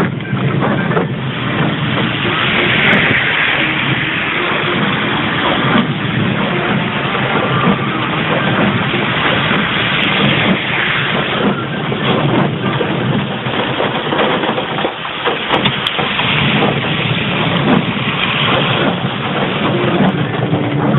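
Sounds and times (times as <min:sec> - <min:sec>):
car engine: 0:00.0 - 0:20.9
heavy rain on car roof: 0:00.0 - 0:20.9
tyres on wet road: 0:00.0 - 0:20.9.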